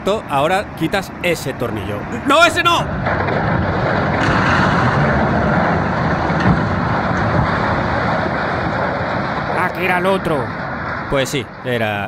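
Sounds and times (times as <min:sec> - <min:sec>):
steel structure toppling rumble: 0:00.0 - 0:12.0.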